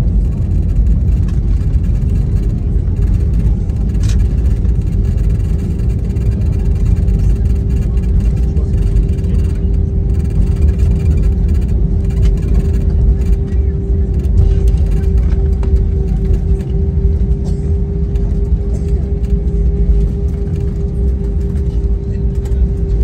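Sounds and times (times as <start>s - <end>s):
engines and wheels rumbling: 0.0s - 23.0s
steady cabin hum: 0.0s - 23.0s.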